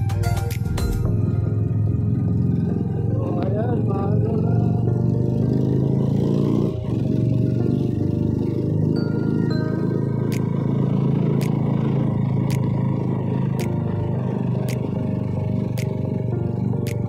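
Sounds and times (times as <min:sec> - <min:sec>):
road and wind noise: 0:00.0 - 0:17.0
motorcycle engine running: 0:00.5 - 0:17.0.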